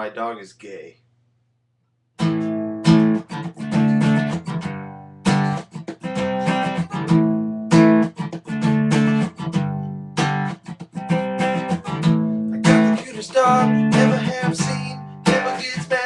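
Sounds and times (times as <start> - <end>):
acoustic guitar strumming: 2.2 - 16.0.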